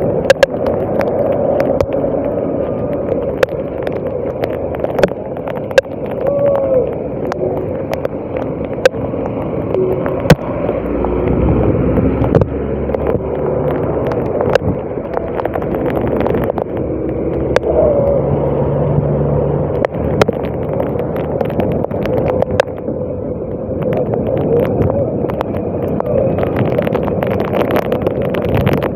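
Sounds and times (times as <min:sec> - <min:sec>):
moving vehicle noise from on board: 0:00.0 - 0:28.9
wind on microphone: 0:00.0 - 0:28.9.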